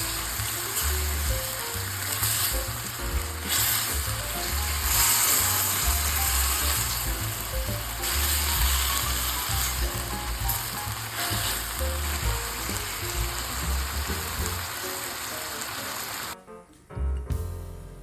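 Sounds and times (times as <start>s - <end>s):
music with pulsing bass: 0.0s - 14.7s
food sizzling in oil: 0.0s - 16.4s.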